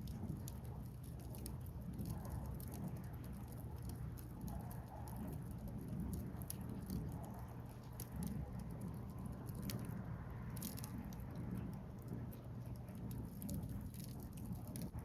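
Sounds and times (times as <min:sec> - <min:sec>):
low steady rush of fire: 0:00.0 - 0:15.0
wood fire crackling: 0:00.0 - 0:15.0.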